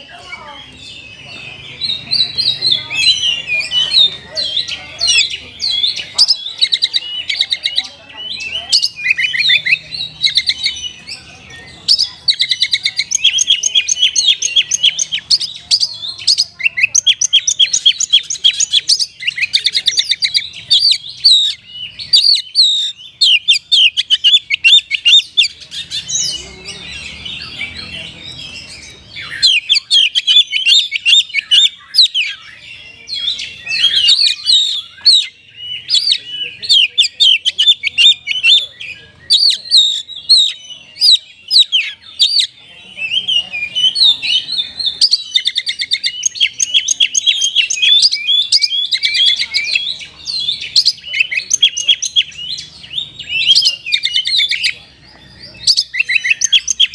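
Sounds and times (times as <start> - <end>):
songbird singing chirps and trills: 0.0 - 56.9.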